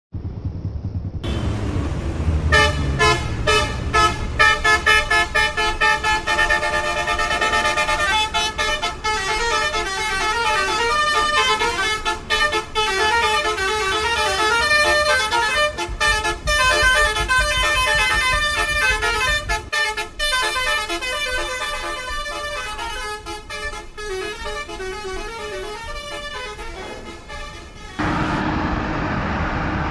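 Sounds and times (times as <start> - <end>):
low engine rumble: 0.1 - 21.3, 22.2 - 29.9
bus horn melody: 1.2 - 28.5.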